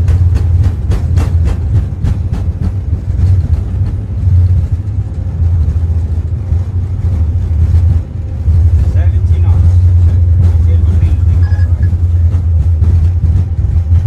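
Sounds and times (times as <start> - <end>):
low rumble in aircraft cockpit: 0.0 - 14.0.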